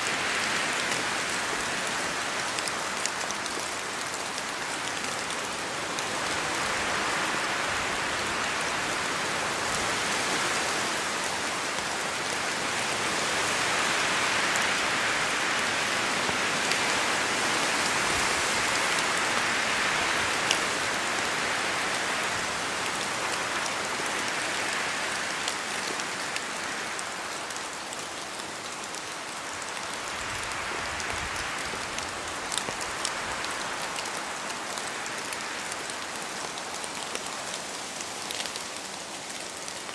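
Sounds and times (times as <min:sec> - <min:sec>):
rain falling through trees: 0:00.0 - 0:39.9
wind gusts: 0:05.5 - 0:39.9.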